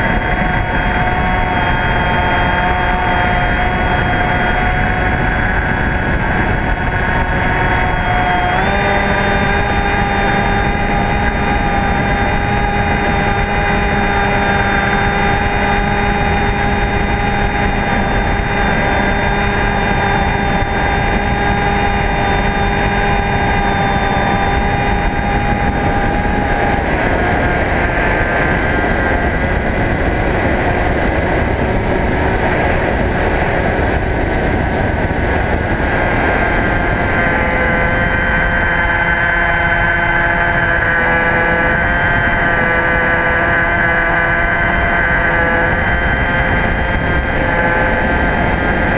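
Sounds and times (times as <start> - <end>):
electric motor and propeller whining: 0.0 - 48.9
wind on microphone: 0.0 - 48.9.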